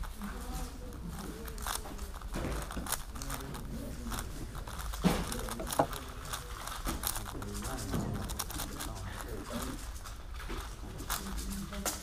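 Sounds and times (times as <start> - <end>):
speedcube clicking and clacking: 0.0 - 12.0.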